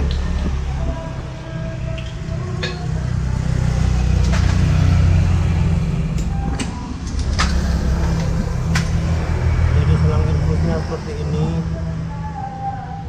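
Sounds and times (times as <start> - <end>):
engine running with pulsing rumble: 0.0 - 13.0.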